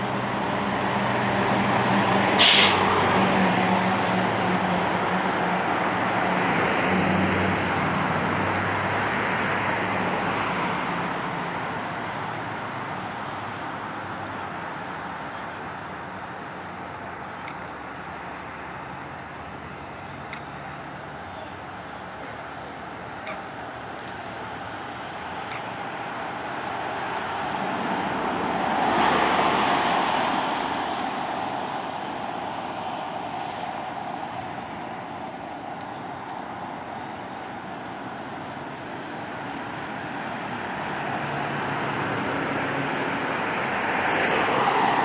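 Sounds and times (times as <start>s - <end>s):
traffic passing on street: 0.0s - 45.0s.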